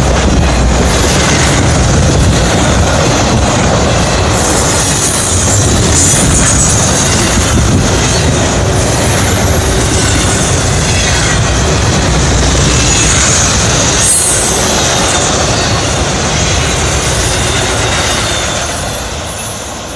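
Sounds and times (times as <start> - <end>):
freight train rumbling and clattering: 0.0 - 19.9.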